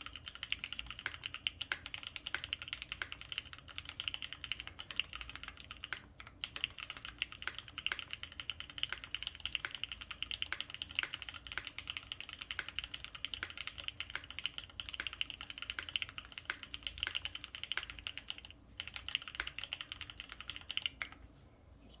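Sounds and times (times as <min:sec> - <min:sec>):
mechanical keyboard typing: 0:00.0 - 0:21.2.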